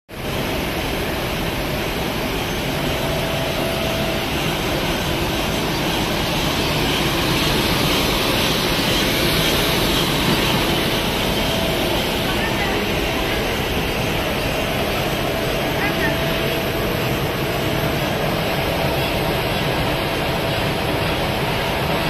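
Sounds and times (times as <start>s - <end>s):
printing press rumble and hiss: 0.1s - 22.0s.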